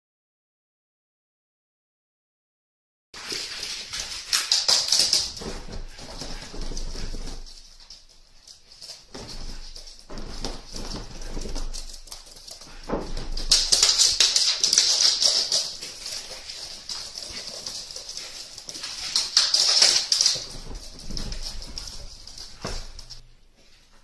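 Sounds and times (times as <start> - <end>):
dog claws clicking on wood floor: 3.2 - 23.2.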